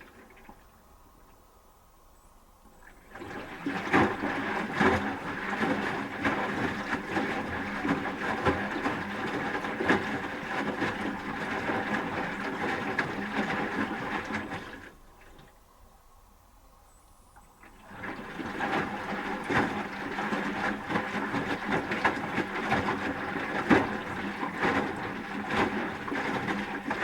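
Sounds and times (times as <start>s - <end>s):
laundry sloshing in water: 0.0s - 1.1s, 2.7s - 15.5s, 17.5s - 27.0s.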